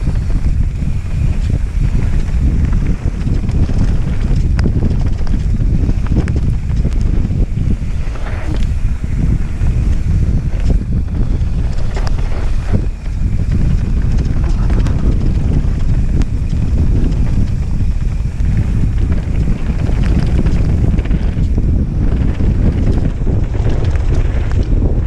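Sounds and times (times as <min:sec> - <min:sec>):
bike rattling clicks and knocks: 0:00.0 - 0:25.0
tyres rolling on loose dirt: 0:00.0 - 0:25.0
wind buffeting microphone: 0:00.0 - 0:25.0.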